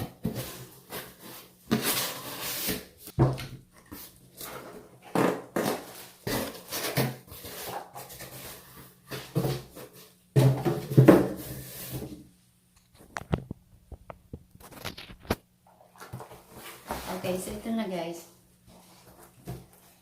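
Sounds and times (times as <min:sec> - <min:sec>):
cardboard rustling and scraping: 0:00.0 - 0:12.3, 0:14.6 - 0:17.6, 0:18.6 - 0:20.0.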